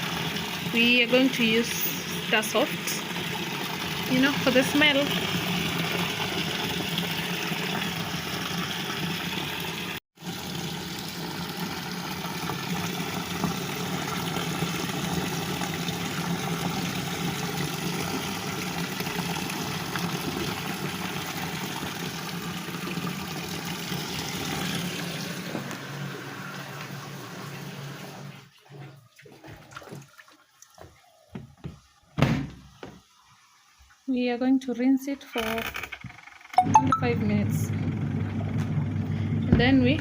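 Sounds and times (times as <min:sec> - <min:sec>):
water running into washing machine tub: 0:00.0 - 0:34.4, 0:36.8 - 0:40.0.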